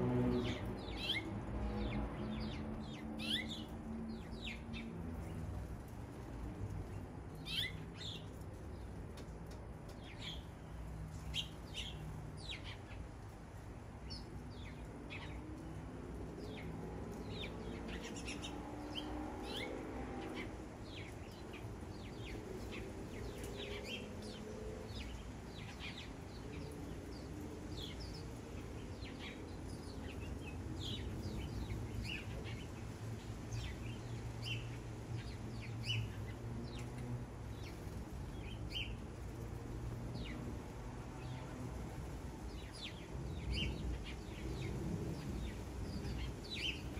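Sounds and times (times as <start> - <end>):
birds chirping: 0.3 - 5.7, 6.8 - 13.2, 14.0 - 46.9.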